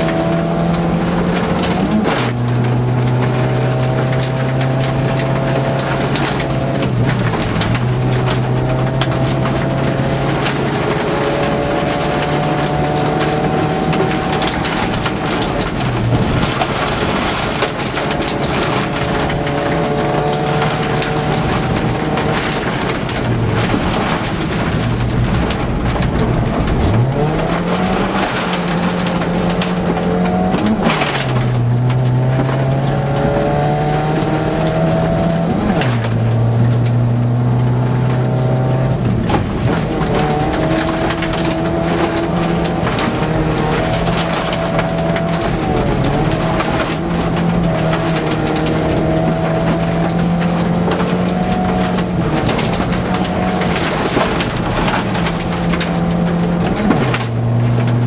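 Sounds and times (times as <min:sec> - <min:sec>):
gravel crunching under car: 0:00.0 - 0:58.0
rally car engine revving: 0:00.0 - 0:58.0.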